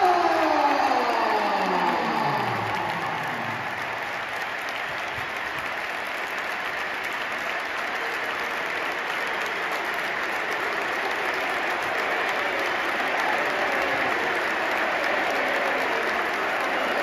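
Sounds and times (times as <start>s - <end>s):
stadium crowd applauding: 0.0s - 17.0s.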